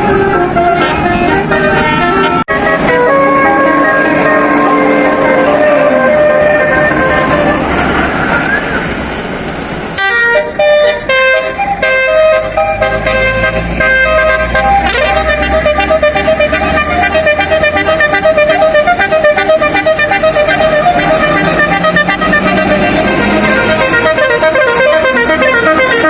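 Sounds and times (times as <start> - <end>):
musical air horn melody: 0.0 - 8.0, 10.0 - 26.0
bus engine rumbling: 0.0 - 26.0.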